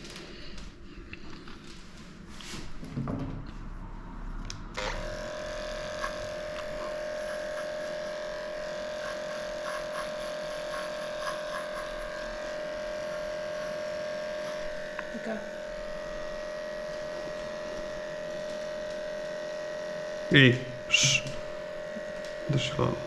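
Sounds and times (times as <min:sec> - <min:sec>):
electric clippers humming: 0:04.5 - 0:23.0.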